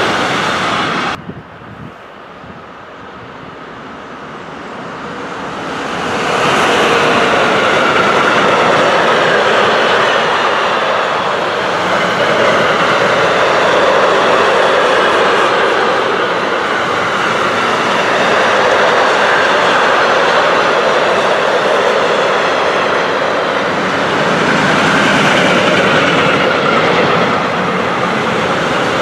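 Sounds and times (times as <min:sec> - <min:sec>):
freight train wheels on rail: 0:00.0 - 0:29.0.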